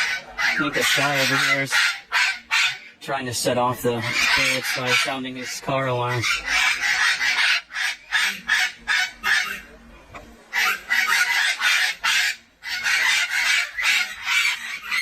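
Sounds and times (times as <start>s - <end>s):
parrots squawking: 0.0s - 9.8s, 10.5s - 15.0s.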